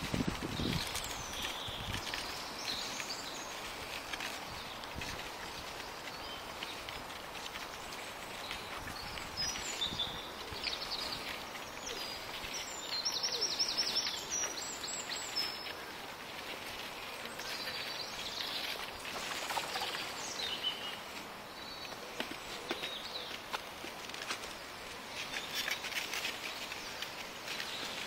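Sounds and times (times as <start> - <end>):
songbirds singing and chirping: 0.0 - 28.0
steady outdoor hiss: 0.0 - 28.0.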